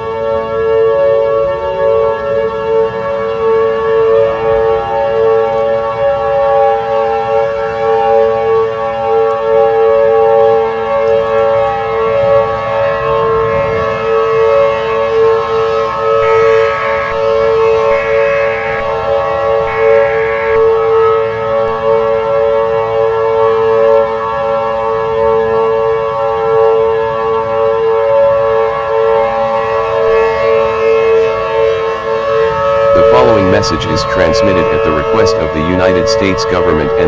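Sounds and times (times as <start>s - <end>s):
civil defense siren: 0.0s - 37.0s.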